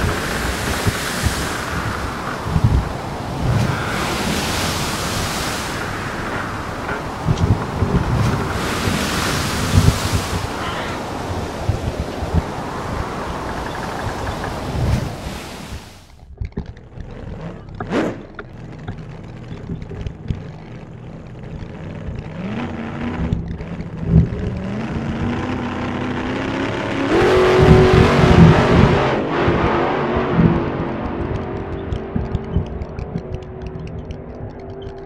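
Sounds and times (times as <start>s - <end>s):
engine running and revving: 0.0s - 15.5s, 16.4s - 35.0s.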